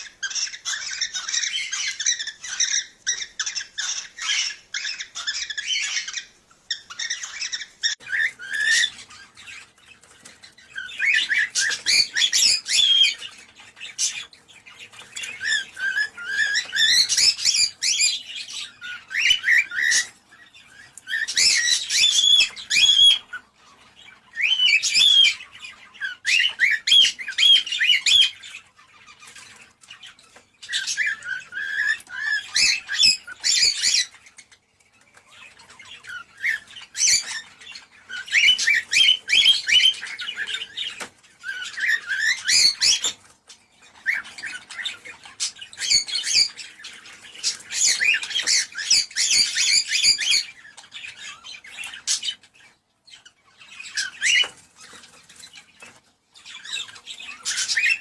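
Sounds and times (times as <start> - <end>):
cockatiels chirping: 0.0 - 58.0.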